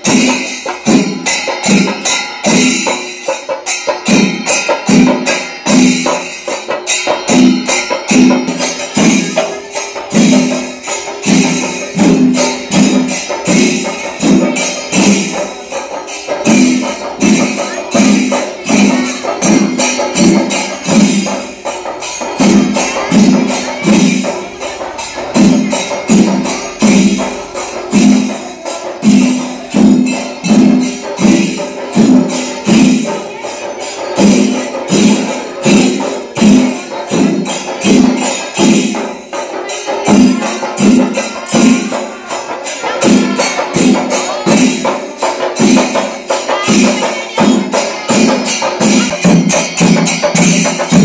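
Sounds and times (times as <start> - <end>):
drums playing fast rhythm: 0.0 - 51.0
small cymbals clashing: 0.0 - 51.0.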